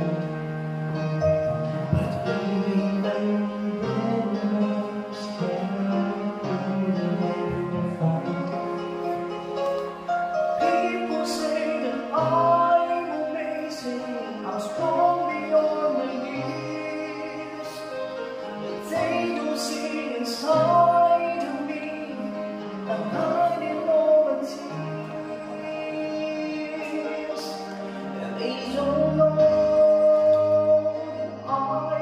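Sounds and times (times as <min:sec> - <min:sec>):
instrumental held chords: 0:00.0 - 0:32.0
man singing gospel ballad: 0:01.7 - 0:08.8, 0:10.6 - 0:32.0.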